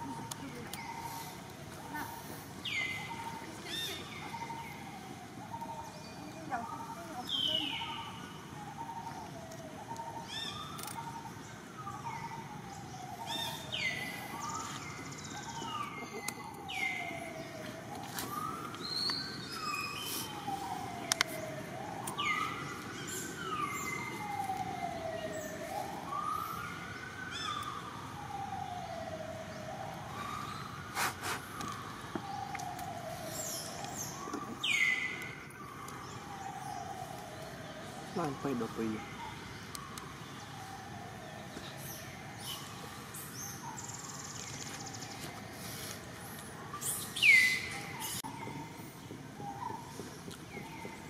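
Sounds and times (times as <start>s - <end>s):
wailing siren: 0.0s - 51.0s.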